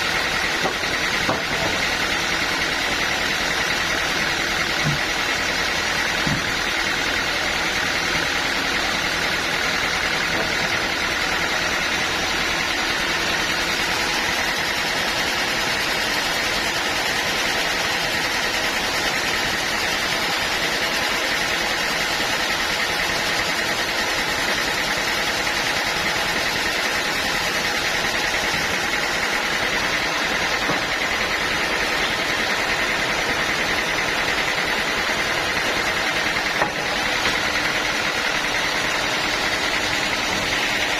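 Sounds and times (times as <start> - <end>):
engine drone: 0.0 - 40.9.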